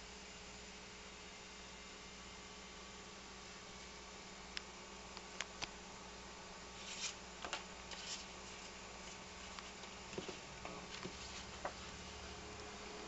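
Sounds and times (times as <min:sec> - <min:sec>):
faint electrical hum and buzz: 0:00.0 - 0:13.0.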